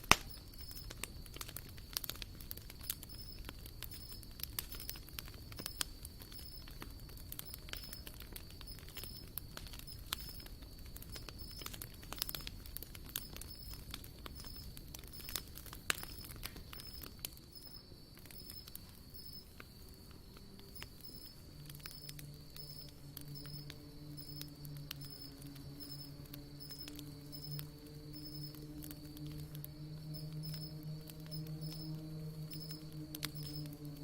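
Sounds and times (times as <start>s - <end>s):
campfire crackling and popping: 0.0s - 34.0s
insects chirping: 0.0s - 34.0s.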